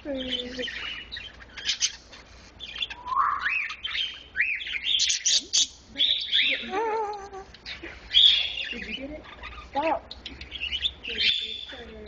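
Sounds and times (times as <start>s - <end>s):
pet bird chirping: 0.0s - 12.0s.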